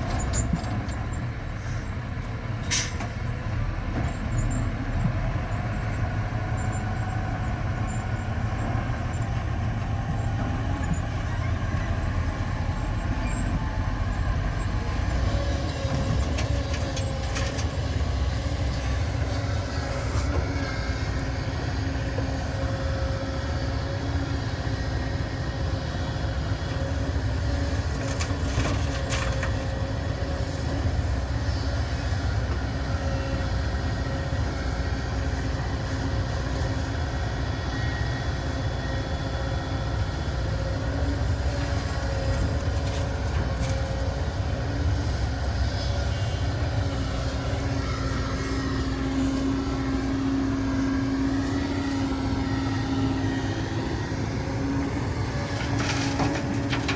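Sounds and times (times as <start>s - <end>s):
diesel engine rumbling: 0.0s - 56.9s.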